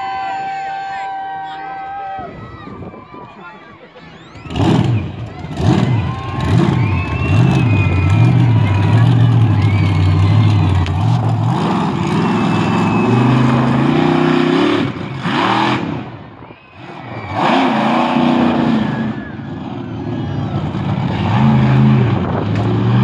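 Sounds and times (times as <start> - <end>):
monster truck engine revving: 4.2 - 23.0.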